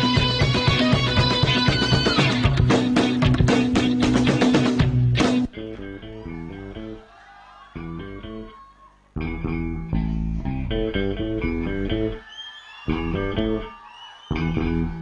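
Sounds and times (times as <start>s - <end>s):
plucked guitar and bass riff: 0.0s - 7.0s, 7.8s - 8.5s, 9.2s - 12.2s, 12.9s - 13.6s, 14.3s - 15.0s.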